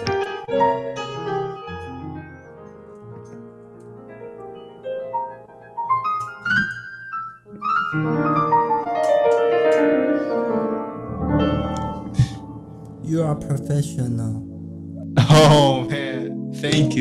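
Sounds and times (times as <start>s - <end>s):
jazz piano: 0.0s - 17.0s.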